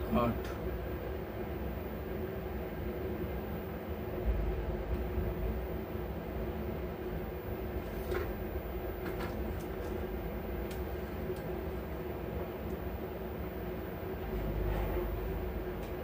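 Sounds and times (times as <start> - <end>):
low mains hum: 0.0 - 16.0.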